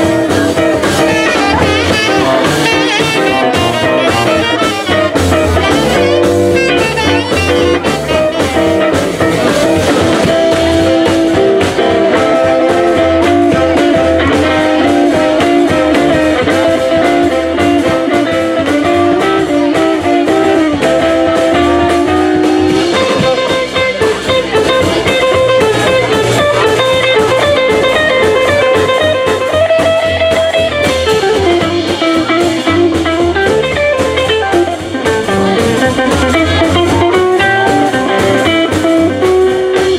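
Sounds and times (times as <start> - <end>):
electric guitar: 0.0 - 39.9
swing band playing: 0.0 - 39.9.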